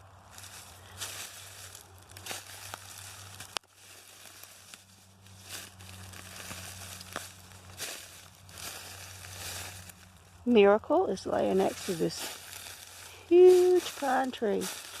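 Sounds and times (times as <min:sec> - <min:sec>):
crackling and rustling: 0:00.0 - 0:15.0
steady low hum: 0:00.0 - 0:15.0.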